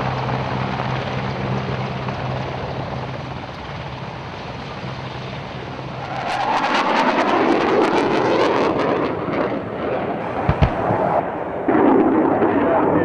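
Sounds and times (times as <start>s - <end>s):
helicopter rotor and turbine drone: 0.0s - 13.0s.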